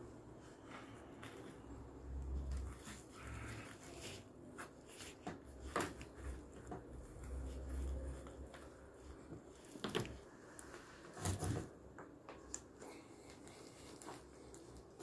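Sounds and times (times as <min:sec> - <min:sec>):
rustling handling noise: 0:00.0 - 0:15.0.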